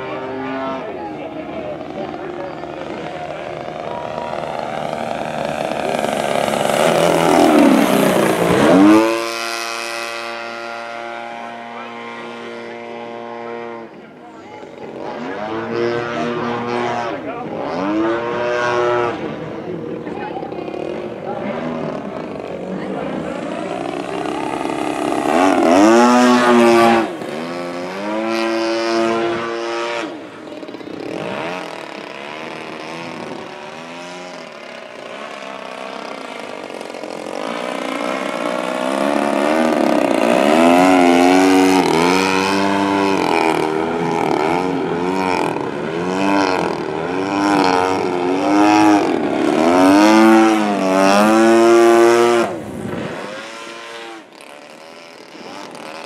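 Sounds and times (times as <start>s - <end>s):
model plane engine and propeller: 0.0s - 56.0s.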